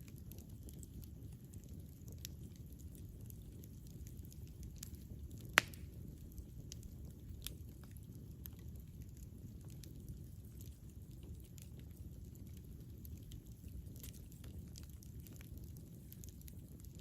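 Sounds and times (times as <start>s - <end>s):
campfire burning: 0.0s - 17.0s
fire crackles: 0.0s - 17.0s.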